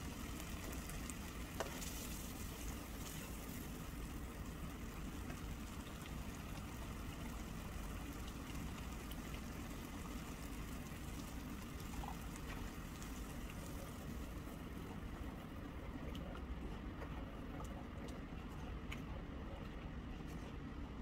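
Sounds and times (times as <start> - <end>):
sauce simmering and bubbling: 0.0 - 21.0.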